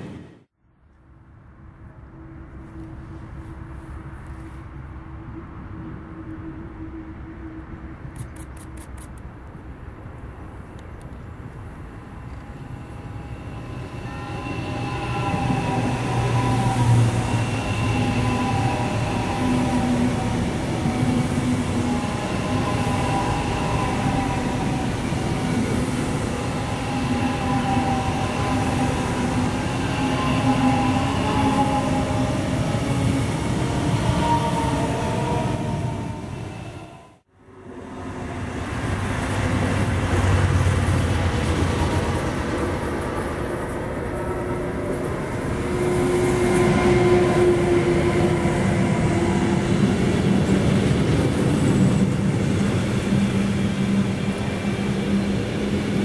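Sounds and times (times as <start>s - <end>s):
high-speed train passing: 0.0s - 56.0s
wheels rushing on rail: 1.2s - 56.0s.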